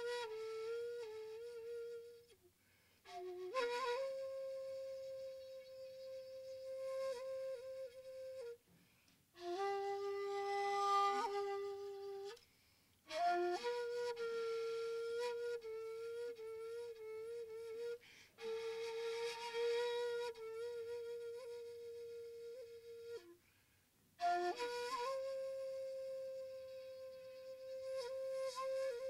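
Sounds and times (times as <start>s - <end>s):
breathy bamboo flute notes: 0.0s - 29.0s.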